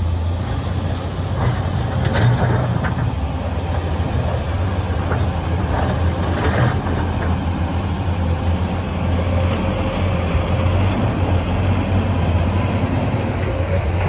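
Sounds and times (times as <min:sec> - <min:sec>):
haul truck pulling away: 0:00.0 - 0:14.0
heavy machinery humming: 0:00.0 - 0:14.0.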